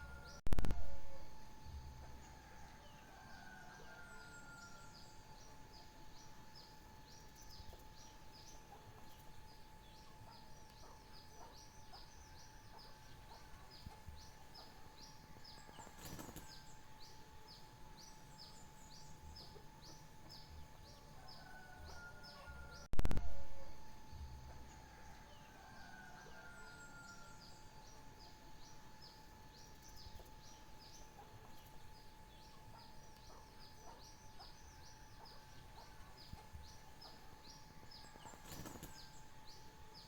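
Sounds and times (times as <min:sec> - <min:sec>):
faint background hum: 0:00.0 - 0:40.0
songbird chirping: 0:00.0 - 0:40.0.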